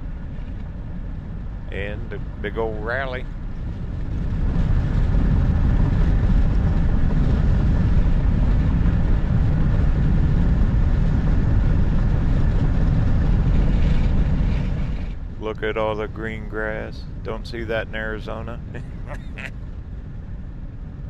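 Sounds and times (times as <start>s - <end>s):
van road and engine noise: 0.0s - 21.0s.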